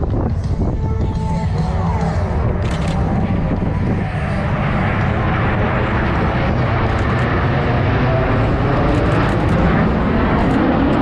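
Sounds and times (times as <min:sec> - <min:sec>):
jet aircraft engine noise: 0:00.0 - 0:11.0.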